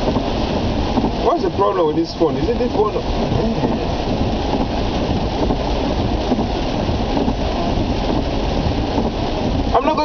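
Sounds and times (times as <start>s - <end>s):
heavy rain on car roof: 0.0s - 10.0s.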